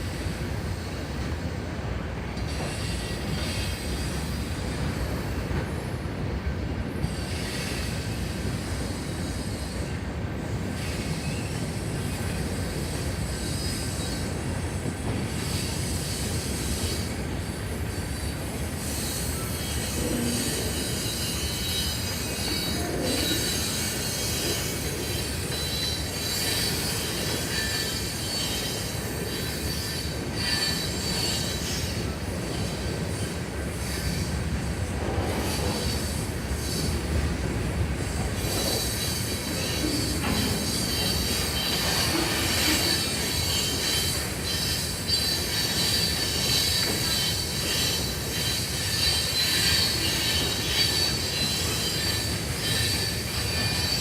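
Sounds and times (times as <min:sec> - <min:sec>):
low rumble of train cars: 0:00.0 - 0:54.0
train wheels squealing on rails: 0:00.0 - 0:54.0.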